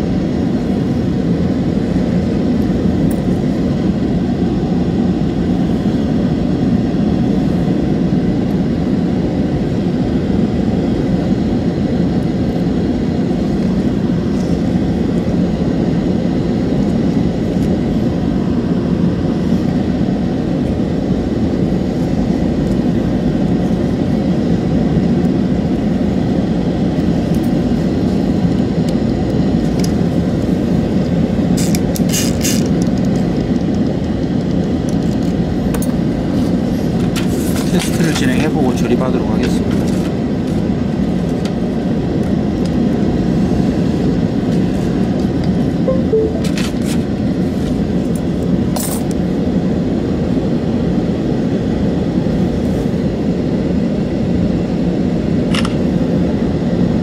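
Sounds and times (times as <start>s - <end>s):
low droning fan: 0.0s - 57.0s.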